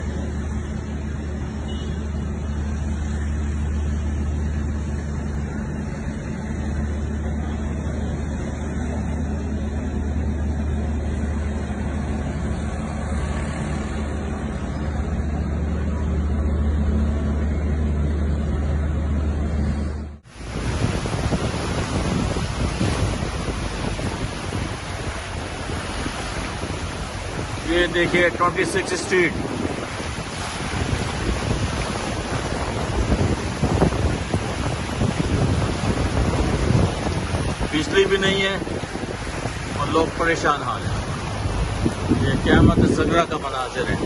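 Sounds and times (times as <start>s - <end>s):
rushing hiss of wind and water: 0.0s - 17.0s, 20.2s - 44.0s
even rushing noise: 0.0s - 44.0s.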